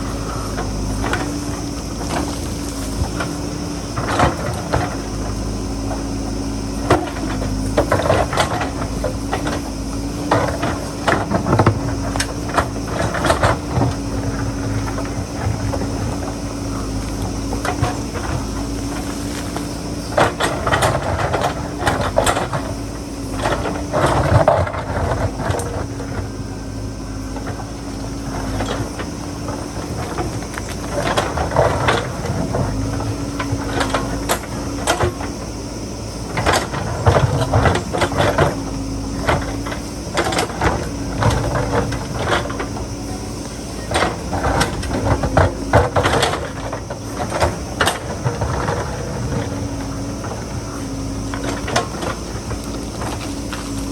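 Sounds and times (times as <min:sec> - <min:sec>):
diesel engine running: 0:00.0 - 0:53.9
knocks clatter and scraping: 0:00.0 - 0:53.9.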